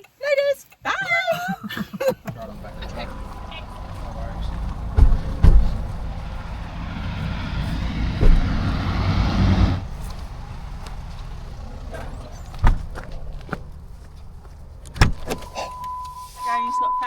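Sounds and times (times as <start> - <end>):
vehicle rumble with tyre noise: 2.2 - 17.0
thump: 2.3 - 16.2.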